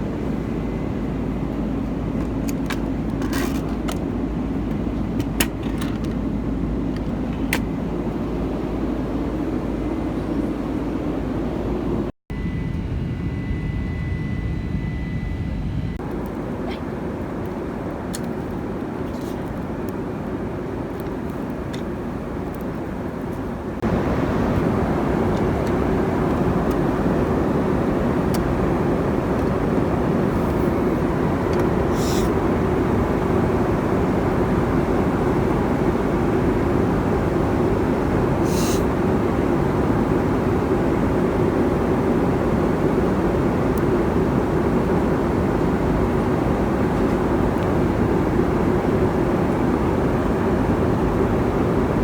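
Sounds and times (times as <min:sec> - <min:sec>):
airplane cabin airflow and engine: 0:00.0 - 0:52.0.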